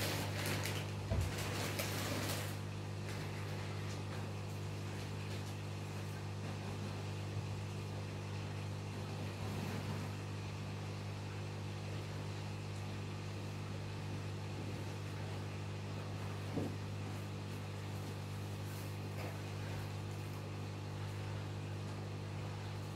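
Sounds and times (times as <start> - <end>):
aquarium pump humming: 0.0 - 22.9.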